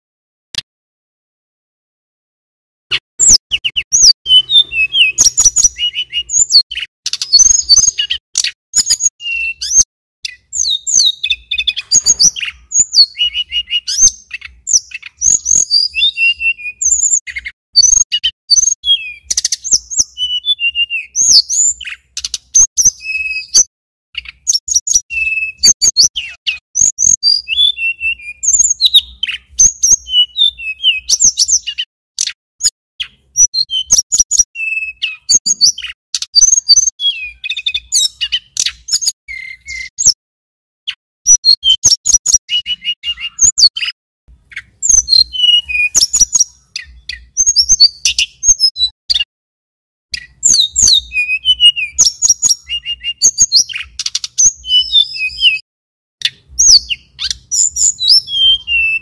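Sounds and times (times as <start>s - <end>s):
bird singing sharp chirps: 2.9s - 40.2s, 40.9s - 49.3s, 50.1s - 55.6s, 56.2s - 59.0s.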